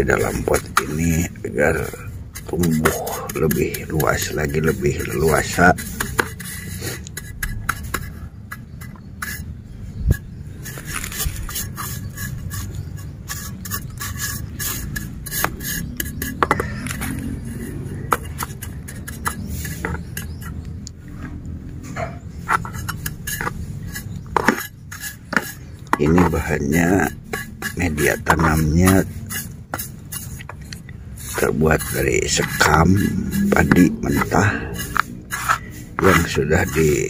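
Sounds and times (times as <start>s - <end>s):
trowel scraping potting mix: 0.0s - 21.4s, 22.0s - 37.0s.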